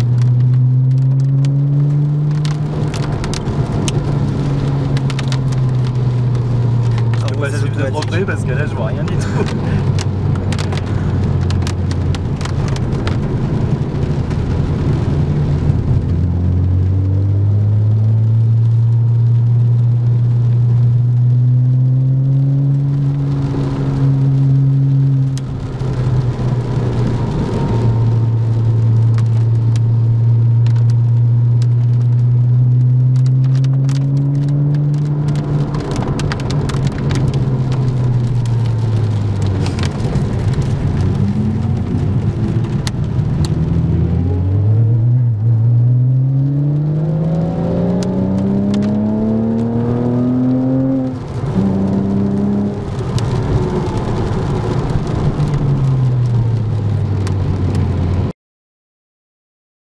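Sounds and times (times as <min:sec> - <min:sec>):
car engine revving: 0:00.0 - 0:19.7, 0:20.5 - 0:58.2
rain ticking on car: 0:00.0 - 0:58.3.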